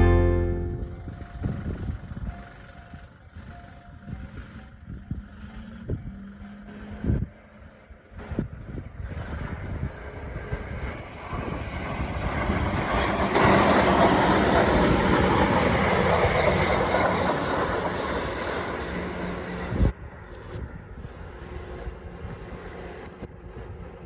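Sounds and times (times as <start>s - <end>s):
train wheels rumbling on rails: 0.1s - 24.0s.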